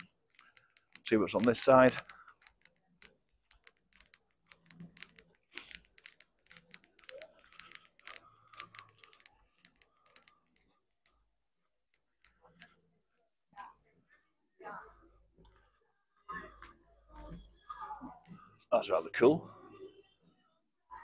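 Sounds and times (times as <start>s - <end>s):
faint clicks and taps: 0.0s - 18.7s.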